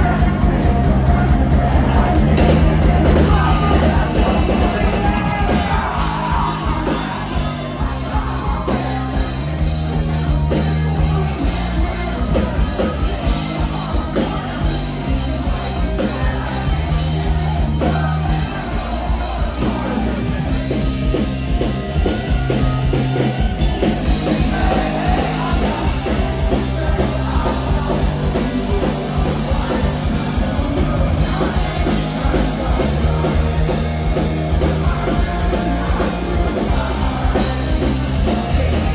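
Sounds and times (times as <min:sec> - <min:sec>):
bass guitar: 0:00.0 - 0:38.9
distorted electric guitars: 0:00.0 - 0:38.9
drums: 0:00.0 - 0:38.9
person singing: 0:00.0 - 0:38.9.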